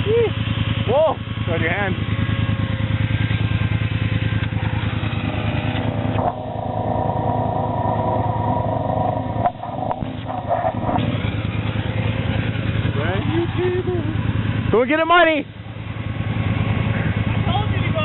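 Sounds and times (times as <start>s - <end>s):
atv engine rumbling: 0.0s - 18.0s.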